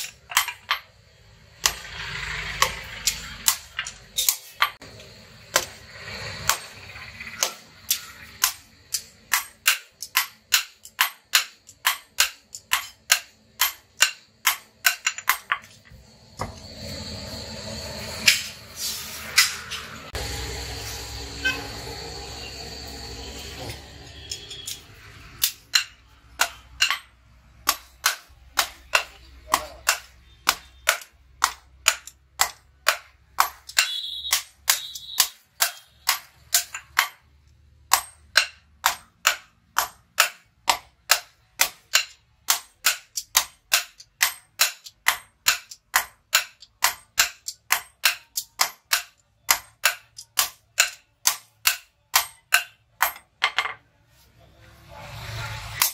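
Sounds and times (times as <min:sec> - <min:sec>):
sledgehammer striking hot steel: 0:01.5 - 0:37.3, 0:37.9 - 0:53.3, 0:55.7 - 0:55.9.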